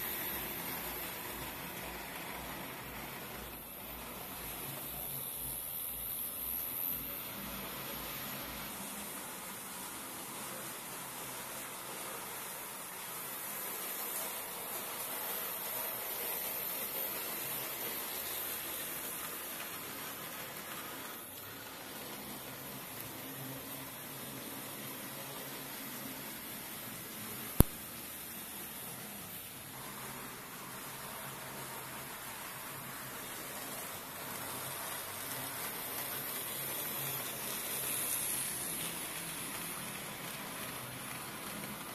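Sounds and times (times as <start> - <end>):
model train running on track: 0.0 - 41.9.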